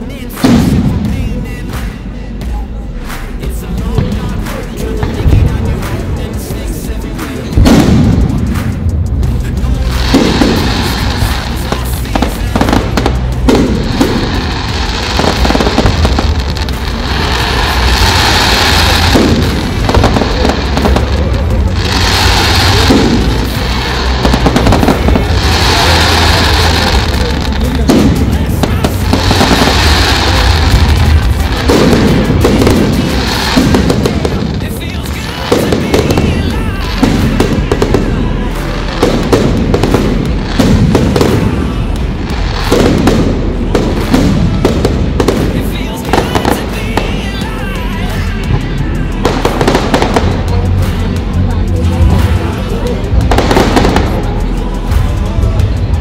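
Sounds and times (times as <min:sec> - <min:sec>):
fireworks booming and crackling: 0:00.0 - 0:56.0.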